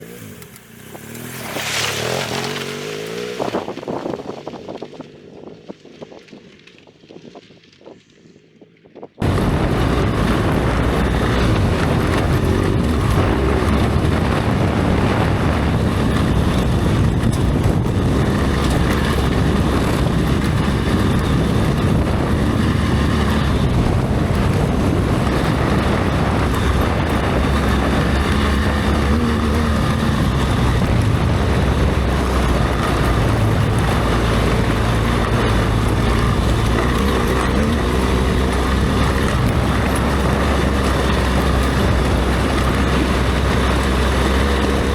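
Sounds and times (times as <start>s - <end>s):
motorcycle engine running: 0.0s - 6.6s, 8.6s - 44.9s
wind noise on microphone: 0.0s - 44.9s.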